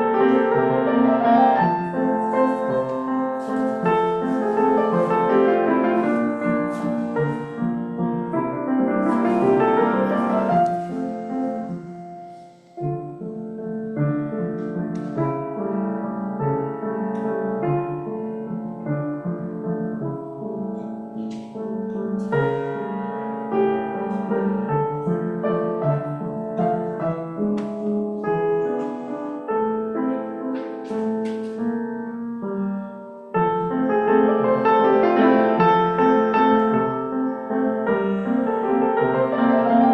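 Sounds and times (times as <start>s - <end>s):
slow solo piano piece: 0.0s - 39.9s.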